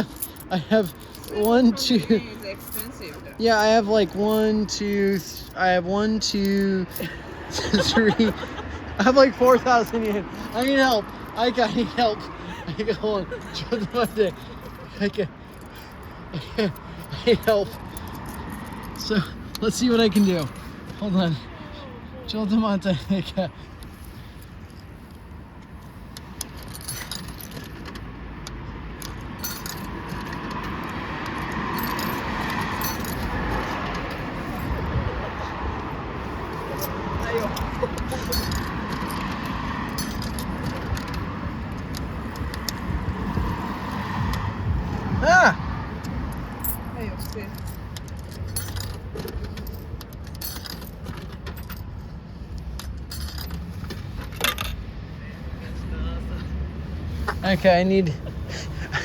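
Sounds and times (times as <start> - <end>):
coins clinking: 0.0 - 5.6, 6.2 - 35.0, 36.4 - 44.5, 46.0 - 54.8
car approaching: 0.0 - 59.0
traffic noise: 0.0 - 59.0.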